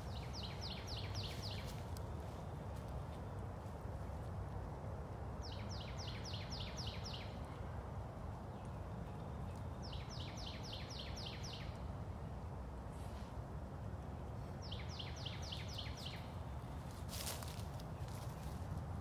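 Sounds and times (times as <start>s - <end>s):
songbird singing: 0.0s - 12.6s, 14.0s - 19.0s
low outdoor background noise: 0.0s - 19.0s.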